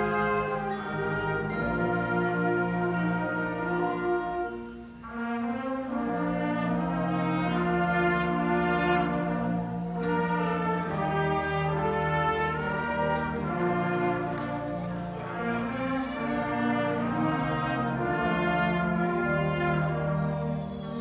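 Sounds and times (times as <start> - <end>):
concert band playing slow chords: 0.0 - 21.0.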